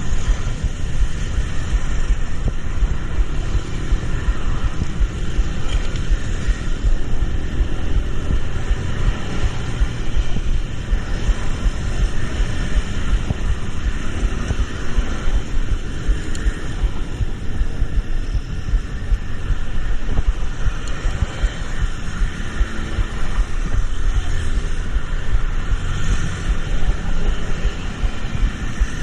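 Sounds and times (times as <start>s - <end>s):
road vehicle running rumble: 0.0s - 29.0s
wind buffeting microphone: 0.0s - 29.0s.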